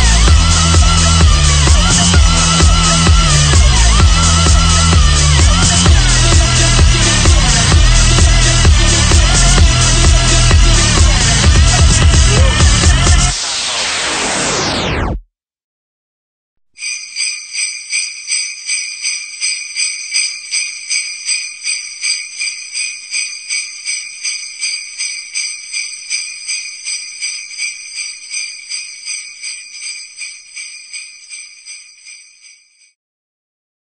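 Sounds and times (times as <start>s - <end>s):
small bells jingling: 0.1s - 12.9s, 16.8s - 33.0s.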